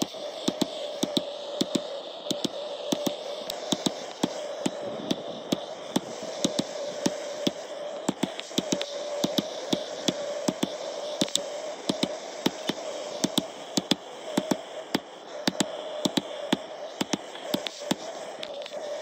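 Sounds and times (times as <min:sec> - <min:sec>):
gas blowtorch roaring: 0:00.0 - 0:19.0.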